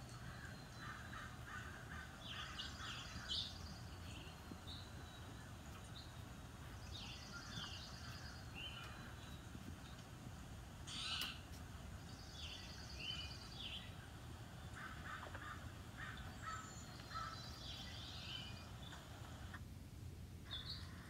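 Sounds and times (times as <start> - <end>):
birds chirping and trilling: 0.0 - 19.6, 20.4 - 21.0
low bird calls: 0.0 - 19.6
low outdoor background noise: 0.0 - 21.0.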